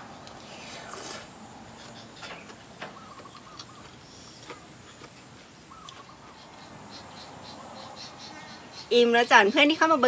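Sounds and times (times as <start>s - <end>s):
birds calling faintly: 0.0s - 10.0s.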